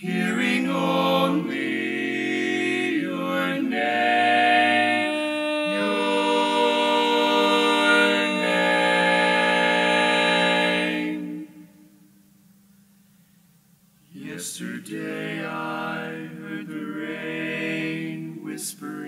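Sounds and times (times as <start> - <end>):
male quartet singing close harmony: 0.0 - 11.7, 14.2 - 19.0.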